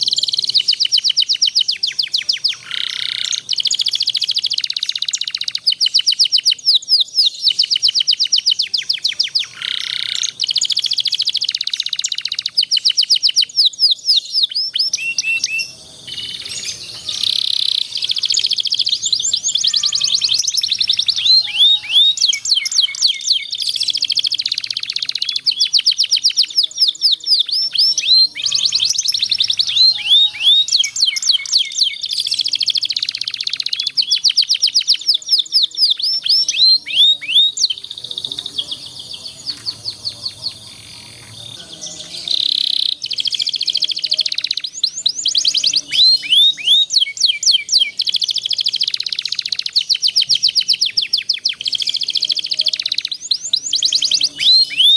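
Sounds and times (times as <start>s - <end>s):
canary trills and chirps: 0.0s - 54.9s.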